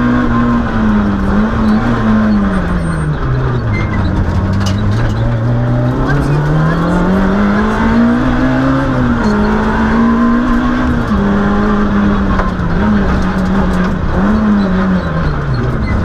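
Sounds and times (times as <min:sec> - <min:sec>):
rally car engine at high revs: 0:00.0 - 0:16.0
tyre and road noise: 0:00.0 - 0:16.0.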